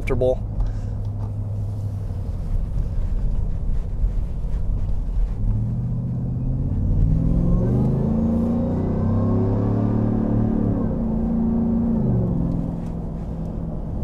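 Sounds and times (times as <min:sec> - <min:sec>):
low exhaust rumble: 0:00.0 - 0:14.0
truck engine accelerating: 0:00.4 - 0:14.0.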